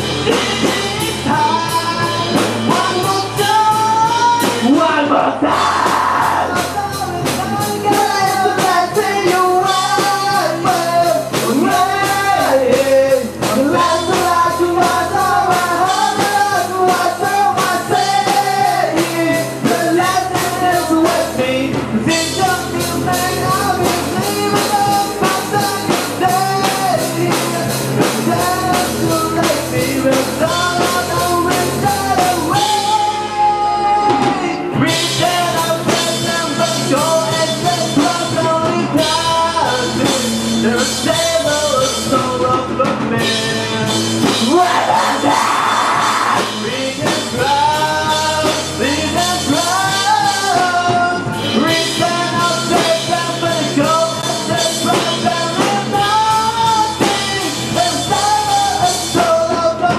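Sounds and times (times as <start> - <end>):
drum kit: 0.0 - 59.9
electric guitars: 0.0 - 59.9
person singing: 0.0 - 59.9.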